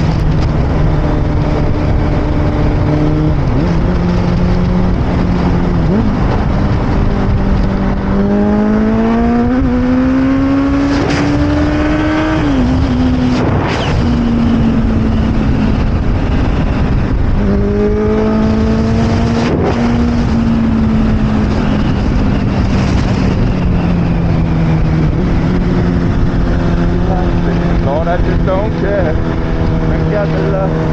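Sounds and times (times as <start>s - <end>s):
motorcycle engine revving: 0.0s - 30.9s
wind and road noise: 0.0s - 30.9s.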